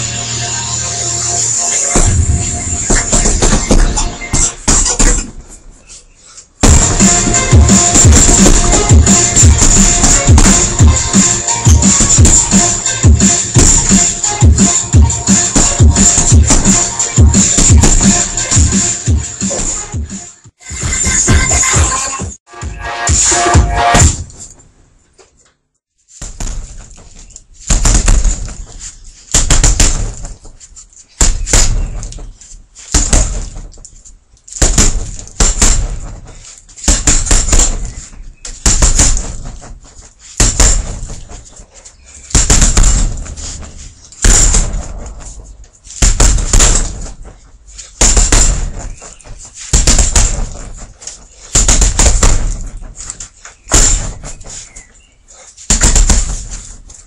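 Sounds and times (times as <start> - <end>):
punching bag thudding blows: 1.8 - 5.8, 6.6 - 20.2, 23.5 - 24.5, 26.0 - 57.0.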